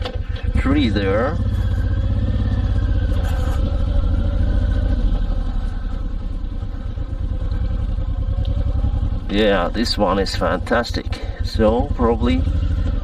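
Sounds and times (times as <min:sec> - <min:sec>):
motorcycle engine idling throb: 0:00.0 - 0:13.0.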